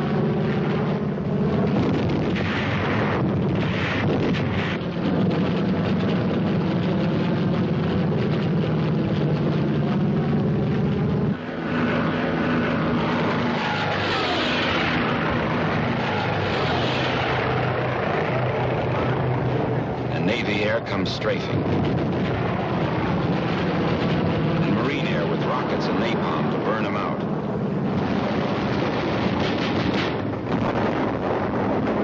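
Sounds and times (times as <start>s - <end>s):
propeller plane flying past: 0.0s - 32.0s
vehicle engine running: 0.0s - 32.0s.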